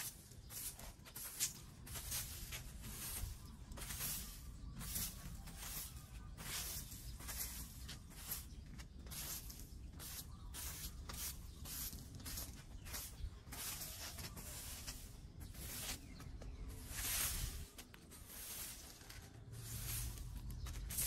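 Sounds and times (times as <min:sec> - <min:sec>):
broom sweeping on concrete: 0:00.0 - 0:21.0.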